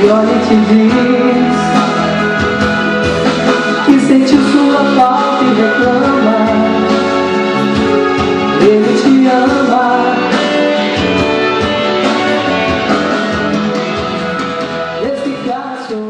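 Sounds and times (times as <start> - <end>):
pop ballad with guitar and strings: 0.0 - 16.0.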